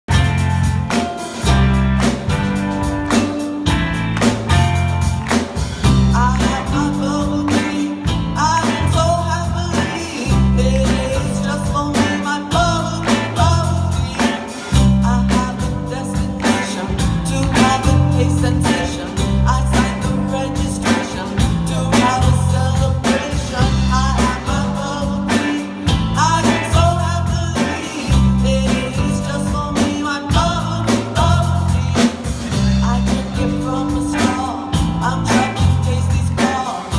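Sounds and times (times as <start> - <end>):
piano: 0.0 - 36.9
live rock band playing: 0.1 - 36.9
person singing: 5.0 - 36.9.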